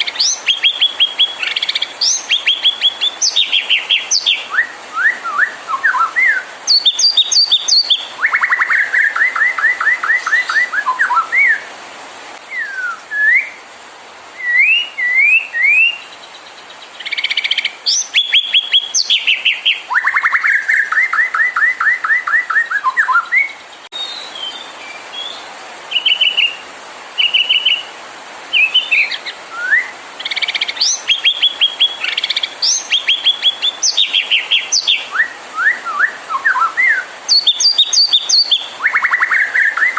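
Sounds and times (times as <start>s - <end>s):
songbird singing varied song: 0.0s - 11.7s, 12.4s - 13.7s, 14.3s - 39.9s.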